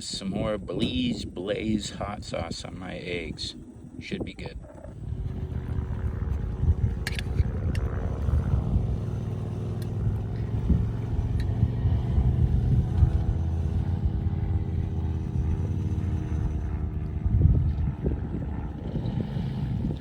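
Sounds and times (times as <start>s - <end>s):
steady droning hum: 0.0s - 20.0s
wind buffeting microphone: 0.0s - 20.0s.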